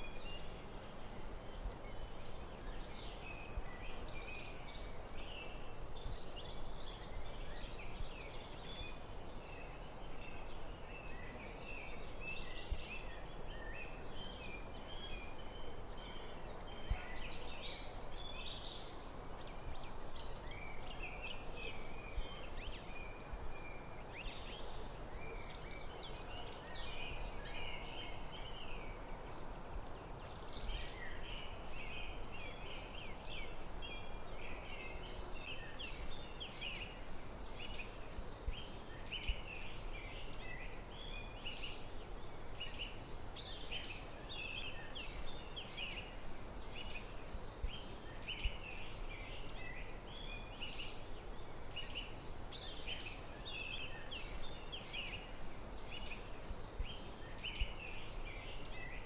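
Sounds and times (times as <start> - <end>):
low background hiss: 0.0 - 59.0.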